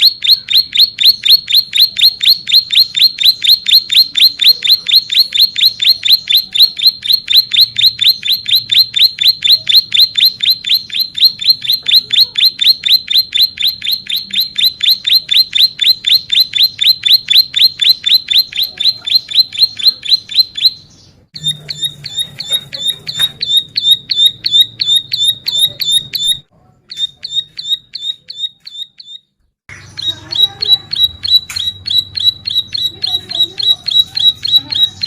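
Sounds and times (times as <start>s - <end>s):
bird singing fast trill: 0.0s - 35.0s.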